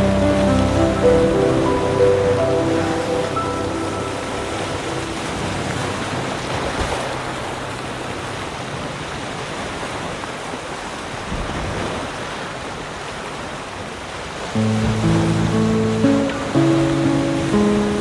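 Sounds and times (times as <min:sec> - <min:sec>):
ocean surf washing: 0:00.0 - 0:18.0.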